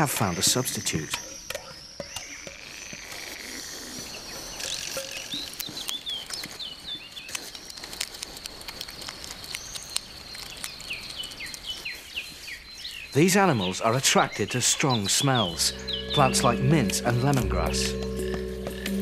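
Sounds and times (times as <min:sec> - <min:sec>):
hedgehog rooting in dry soil: 0:00.0 - 0:19.0
small birds chirping: 0:00.0 - 0:19.0.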